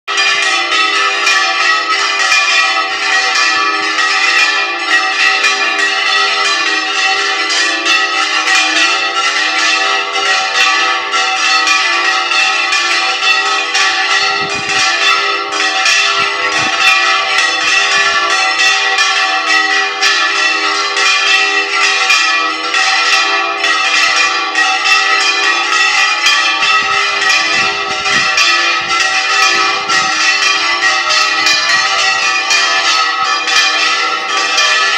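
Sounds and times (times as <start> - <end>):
church bells pealing: 0.1 - 34.9.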